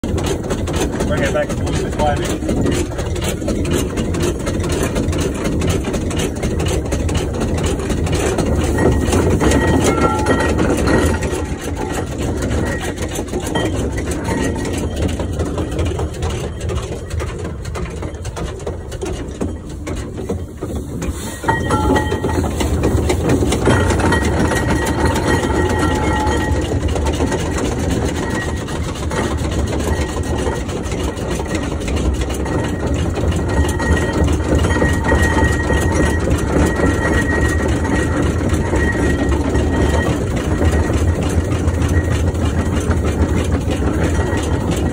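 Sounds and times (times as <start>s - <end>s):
steam engine running: 0.0s - 44.9s.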